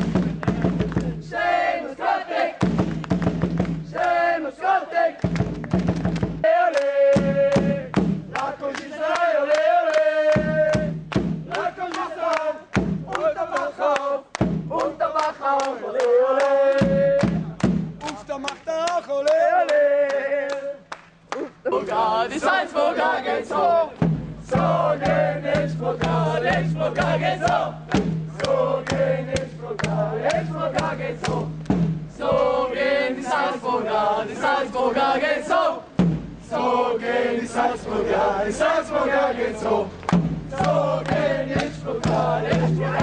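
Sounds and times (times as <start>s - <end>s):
crowd chanting and singing: 0.0s - 43.0s.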